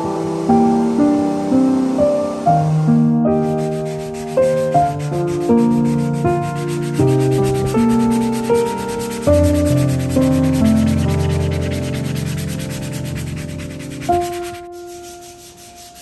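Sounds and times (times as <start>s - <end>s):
sanding block scratching wood: 0.0s - 16.0s
slow piano music: 0.0s - 16.0s.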